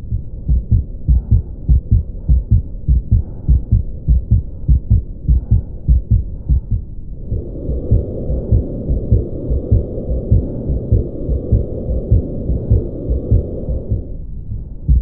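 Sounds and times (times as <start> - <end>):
continuous whooshing: 0.0 - 15.0
heart murmur: 0.0 - 15.0
heartbeat thuds: 0.0 - 15.0.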